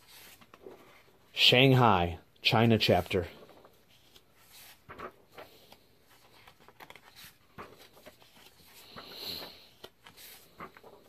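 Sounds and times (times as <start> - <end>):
paper sheets rustling: 0.0 - 1.4, 2.7 - 11.0.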